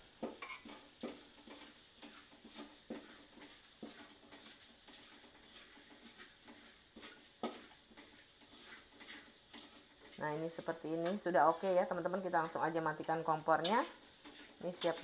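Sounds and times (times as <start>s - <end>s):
garlic sizzling in oil: 0.0s - 15.0s
metal spatula scraping and tapping: 0.1s - 15.0s.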